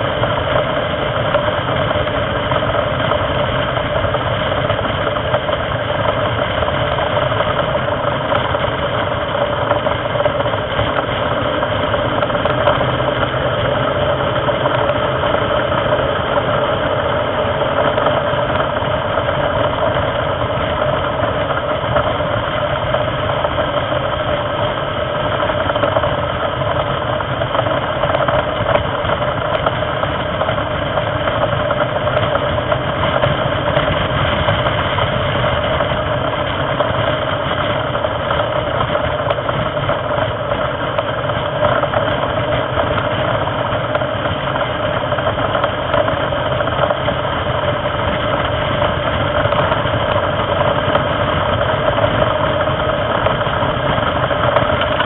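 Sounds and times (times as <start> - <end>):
racing car engine: 0.0 - 55.0
wind and road noise: 0.0 - 55.0.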